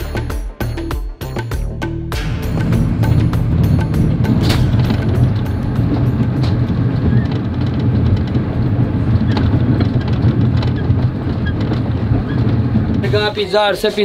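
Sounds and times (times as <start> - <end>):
train rumble from inside: 2.2 - 14.0.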